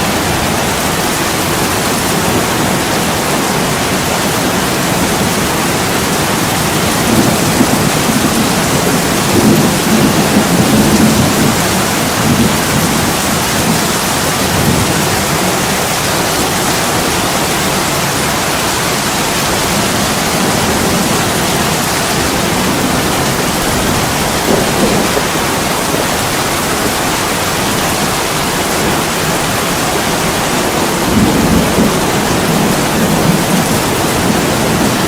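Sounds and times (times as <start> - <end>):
heavy rain on a window: 0.0 - 35.0.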